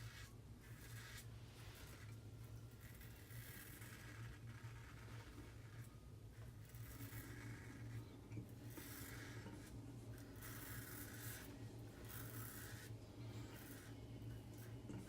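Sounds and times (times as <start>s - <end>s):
razor scraping stubble: 0.0s - 15.0s
steady low hum: 0.0s - 15.0s.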